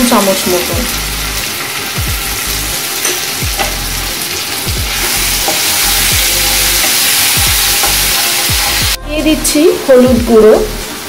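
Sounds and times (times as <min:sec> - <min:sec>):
paste sizzling in hot oil: 0:00.0 - 0:09.0.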